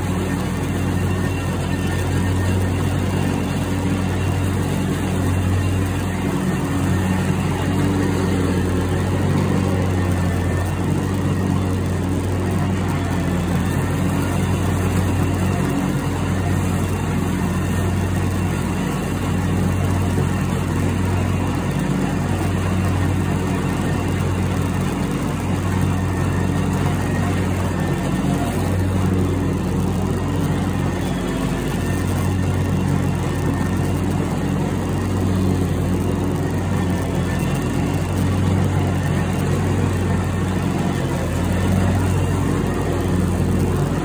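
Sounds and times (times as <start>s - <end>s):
lawn mower engine droning: 0.0s - 44.0s.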